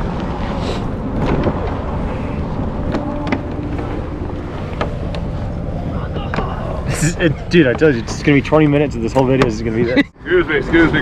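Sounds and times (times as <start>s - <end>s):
vehicle road and engine rumble: 0.0s - 11.0s.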